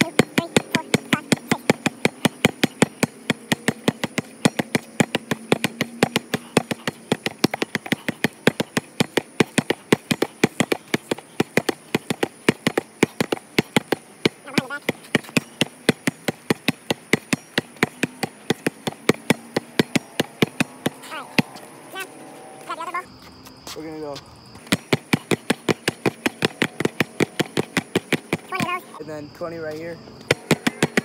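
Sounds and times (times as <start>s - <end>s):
basketball bouncing on concrete: 0.0s - 22.1s, 24.6s - 29.0s, 30.3s - 31.0s.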